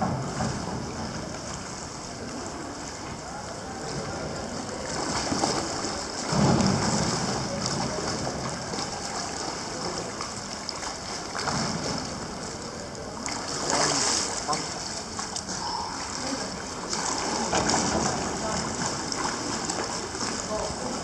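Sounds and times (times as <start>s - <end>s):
water lapping and sloshing: 0.0s - 21.0s.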